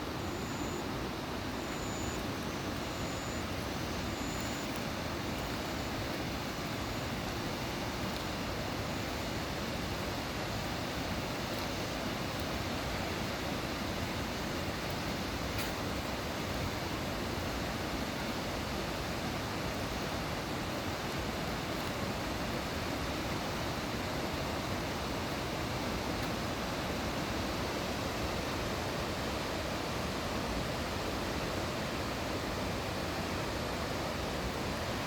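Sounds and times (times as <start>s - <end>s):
stream rushing: 0.0s - 35.0s.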